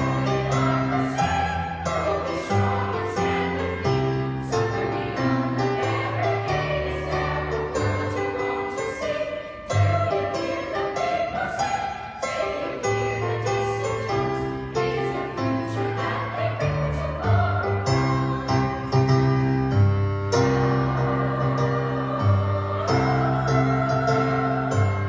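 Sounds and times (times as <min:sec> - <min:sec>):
chorus singing: 0:00.0 - 0:25.0.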